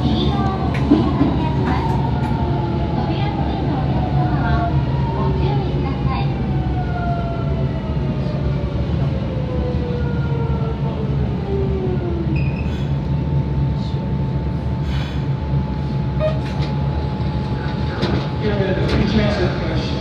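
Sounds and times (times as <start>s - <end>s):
train inverter whine: 0.0s - 20.0s
wheels rumbling on track: 0.0s - 20.0s.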